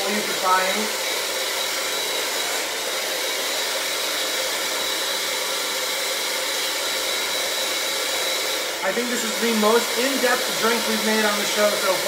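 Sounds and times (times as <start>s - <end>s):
electric mixer running: 0.0s - 12.0s.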